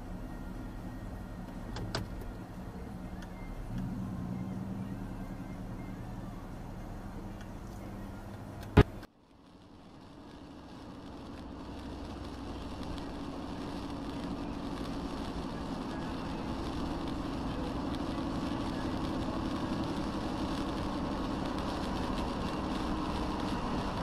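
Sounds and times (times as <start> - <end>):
car road noise on wet highway: 0.0 - 24.0.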